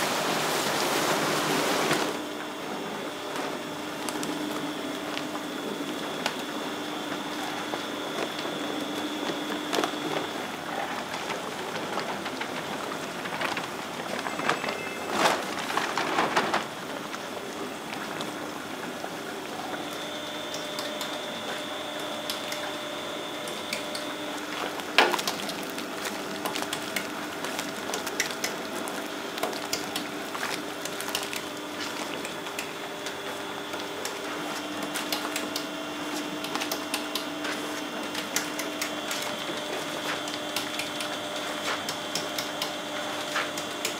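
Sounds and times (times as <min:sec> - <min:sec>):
machinery humming: 0:00.0 - 0:43.9.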